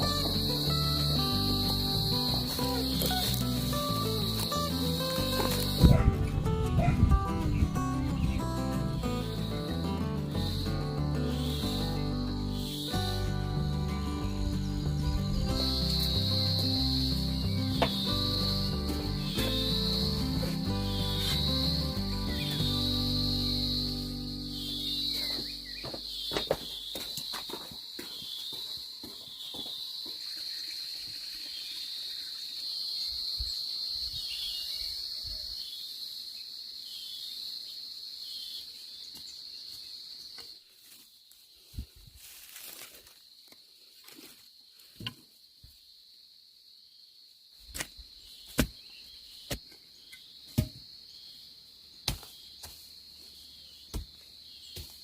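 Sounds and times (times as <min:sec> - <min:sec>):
insects buzzing high-pitched: 0:00.0 - 0:55.0.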